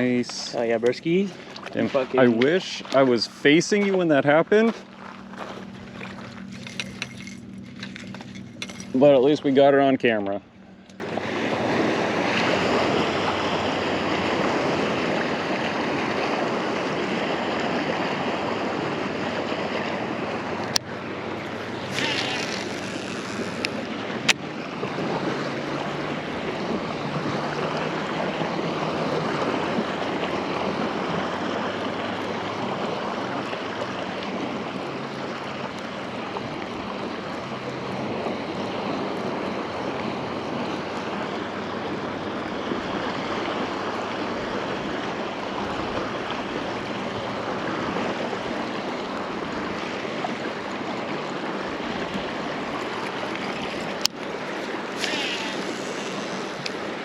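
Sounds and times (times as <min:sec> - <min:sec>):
lake water: 0:00.0 - 0:57.0
wind: 0:00.0 - 0:57.0.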